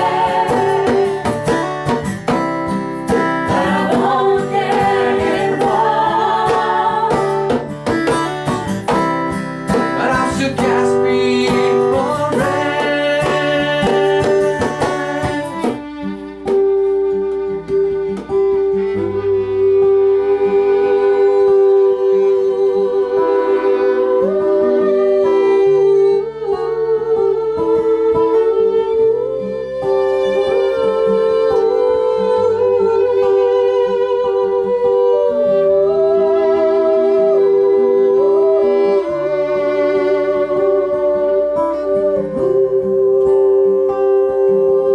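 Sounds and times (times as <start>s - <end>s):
acoustic guitar accompaniment: 0.0s - 44.9s
fiddle melody: 0.0s - 44.9s.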